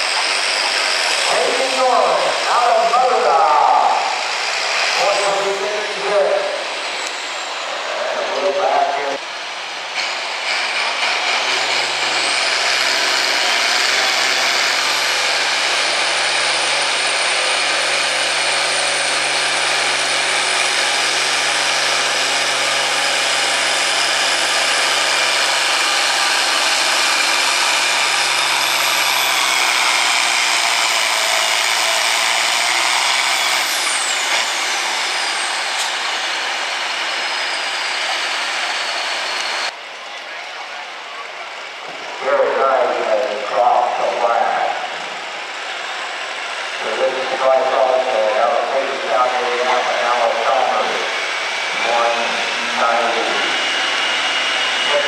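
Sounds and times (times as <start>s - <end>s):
diesel tractor engine: 0.0s - 55.0s.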